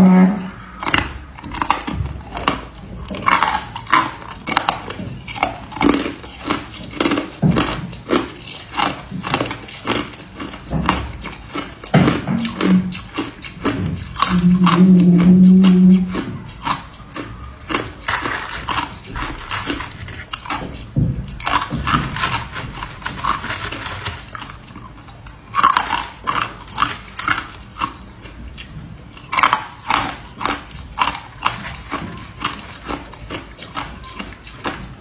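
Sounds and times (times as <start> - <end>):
ice crunching while chewed: 0.4 - 35.0.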